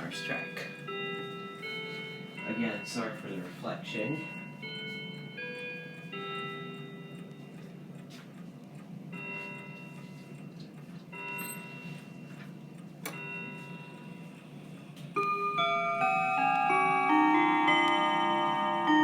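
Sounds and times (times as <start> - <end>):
clock striking on chime rods: 0.0 - 7.8, 9.1 - 12.5, 13.1 - 14.5, 15.2 - 19.0.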